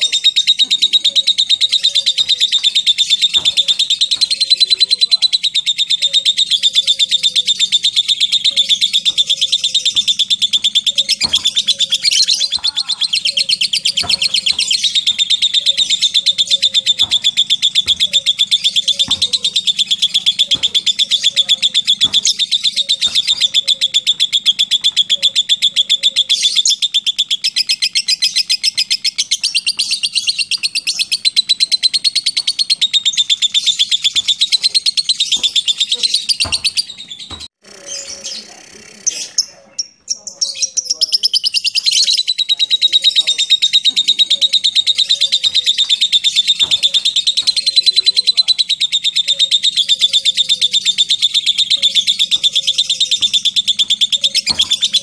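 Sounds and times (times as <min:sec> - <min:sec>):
lovebird chattering: 0:00.0 - 0:55.0.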